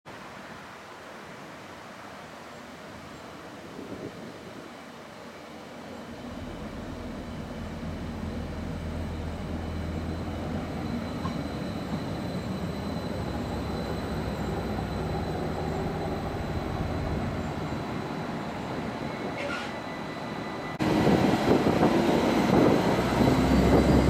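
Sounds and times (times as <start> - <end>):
train rolling into station: 4.4 - 24.0.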